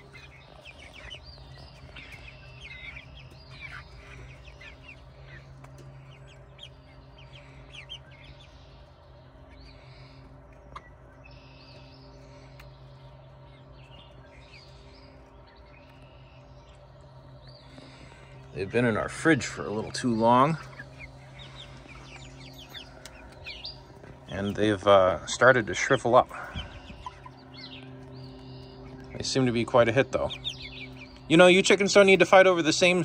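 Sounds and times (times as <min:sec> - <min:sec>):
hens clucking and chirping: 0:00.0 - 0:33.0
low hum: 0:00.0 - 0:33.0.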